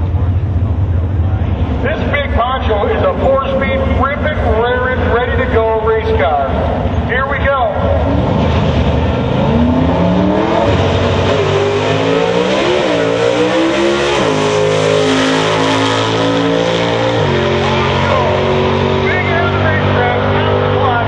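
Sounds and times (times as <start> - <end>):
drag car engine accelerating: 0.0 - 21.0.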